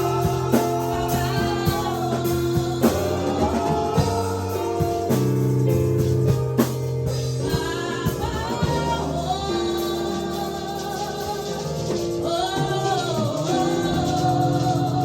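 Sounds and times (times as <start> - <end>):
congregation singing: 0.0 - 6.1, 7.1 - 15.0
band with bass keyboard and drums: 0.0 - 15.0.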